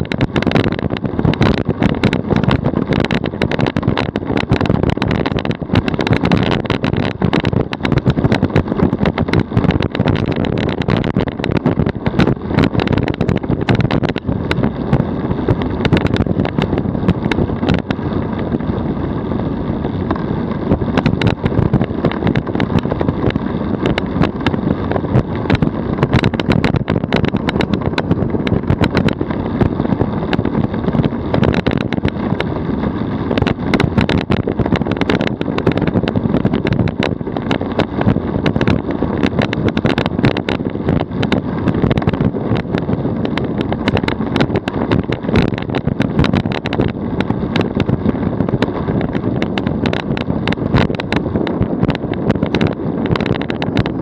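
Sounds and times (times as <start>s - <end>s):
tyre and road rumble: 0.0s - 54.0s
wind: 0.0s - 54.0s.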